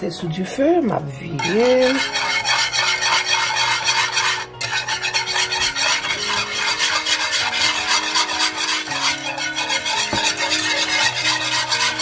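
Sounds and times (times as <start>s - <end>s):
wire whisk scraping pan: 1.3s - 12.0s.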